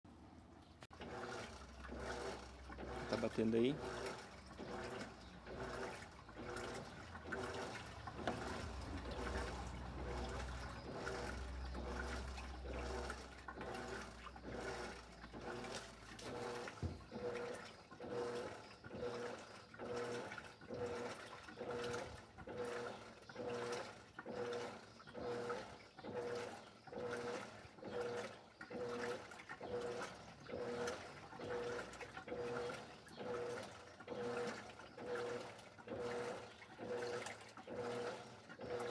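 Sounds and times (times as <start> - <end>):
washing machine agitating: 0.9 - 38.9
water sloshing: 1.0 - 38.9.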